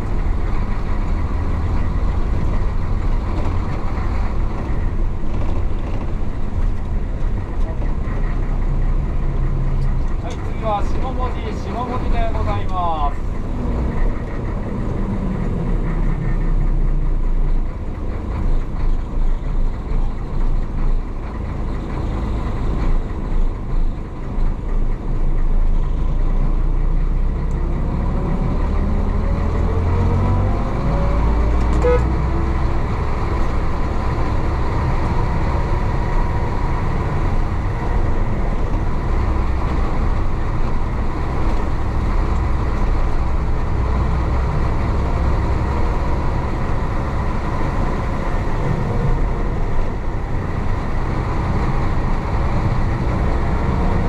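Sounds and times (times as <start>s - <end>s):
bus diesel engine under load: 0.0s - 54.0s.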